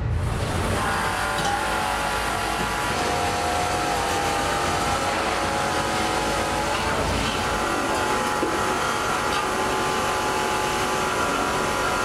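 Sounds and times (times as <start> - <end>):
factory machinery droning: 0.0 - 12.0.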